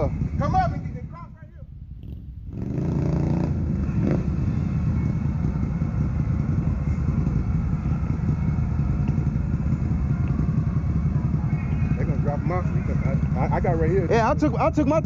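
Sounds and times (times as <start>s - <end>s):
engine revving and rumbling: 0.0s - 1.1s, 1.7s - 15.0s.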